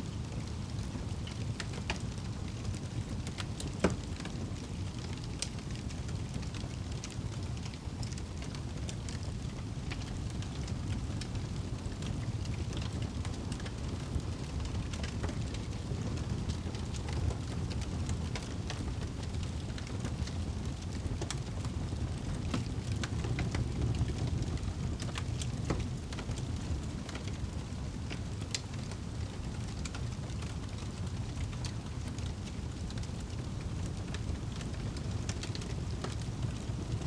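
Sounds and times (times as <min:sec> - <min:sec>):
burning wood crackling: 0:00.0 - 0:37.0
fire flames rumbling: 0:00.0 - 0:37.0.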